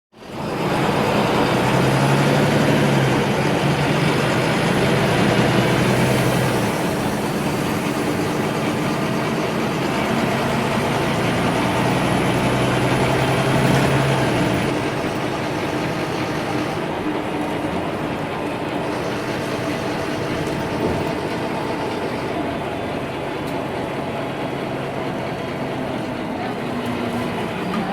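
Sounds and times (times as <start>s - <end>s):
bus engine: 0.1s - 27.9s
road noise: 0.1s - 27.9s.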